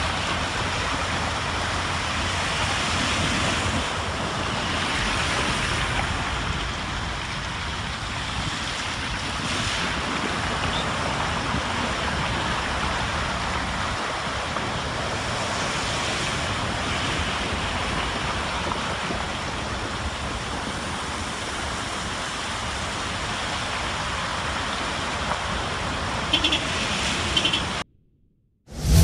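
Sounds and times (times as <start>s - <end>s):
heavy rain: 0.0s - 27.8s.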